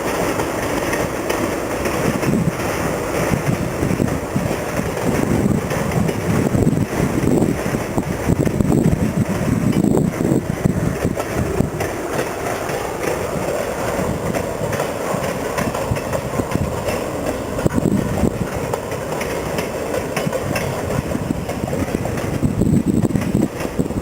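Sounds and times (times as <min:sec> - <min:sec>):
rail clicks: 0:00.0 - 0:24.0
train wheels rumbling on rails: 0:00.0 - 0:24.0.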